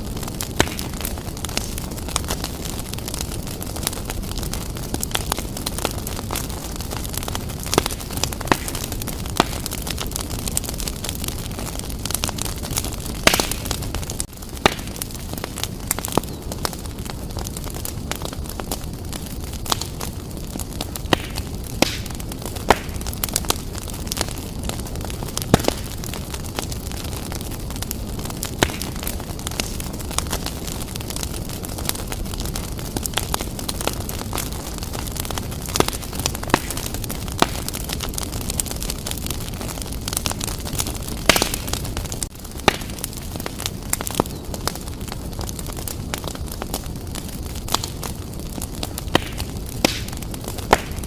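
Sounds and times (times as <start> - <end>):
fire crackling in a fireplace: 0.0 - 51.0.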